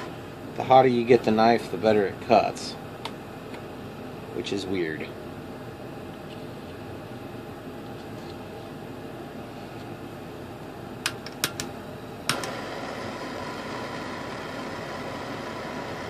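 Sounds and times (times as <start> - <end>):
workshop exhaust fan whirring: 0.0 - 16.0.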